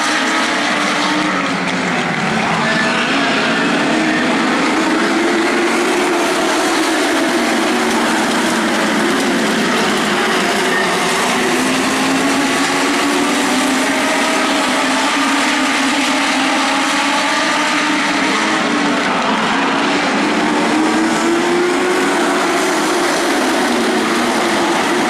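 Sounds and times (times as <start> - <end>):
race car engines at high revs: 0.0 - 25.0.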